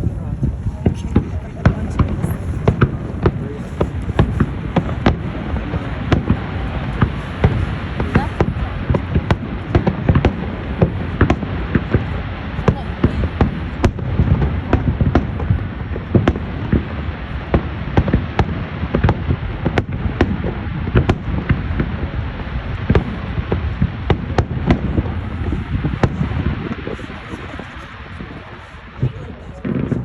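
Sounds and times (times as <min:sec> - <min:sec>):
fireworks bangs: 0:00.0 - 0:30.0
low rumble: 0:00.0 - 0:30.0.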